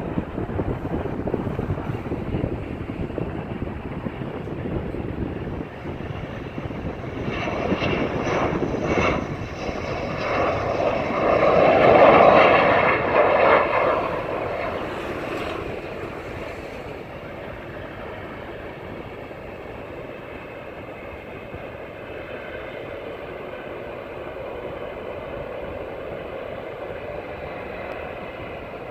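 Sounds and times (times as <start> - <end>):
jet engine roar: 0.0 - 28.9.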